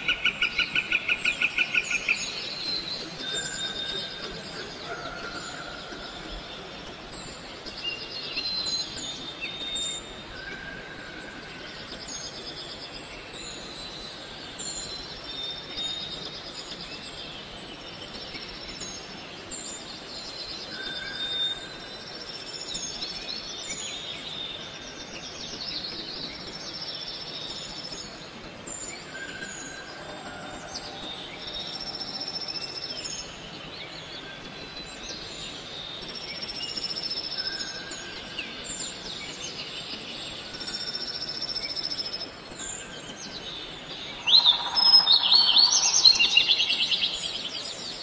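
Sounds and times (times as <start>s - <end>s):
birds chirping and trilling: 0.0s - 48.0s
steady background hiss: 0.0s - 48.0s.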